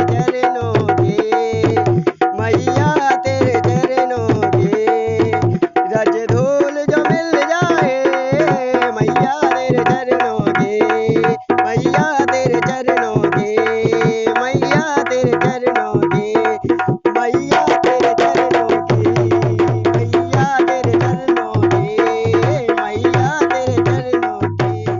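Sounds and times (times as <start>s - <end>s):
dholak drumming: 0.0s - 24.9s.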